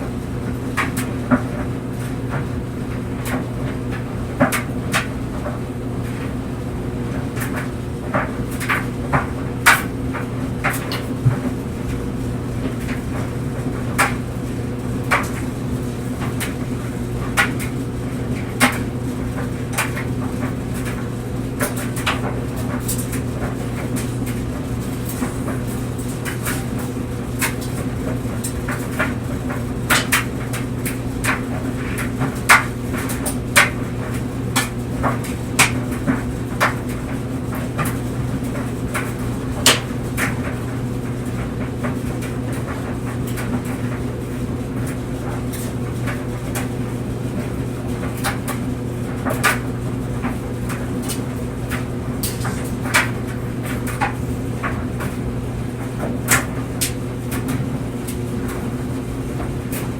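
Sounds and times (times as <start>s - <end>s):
clothes dryer humming: 0.0s - 59.9s
clothes knocking in dryer drum: 0.0s - 59.9s.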